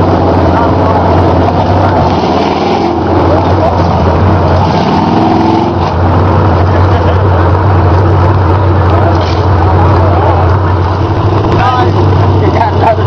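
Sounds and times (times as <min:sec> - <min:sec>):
truck engine droning under load: 0:00.0 - 0:13.0.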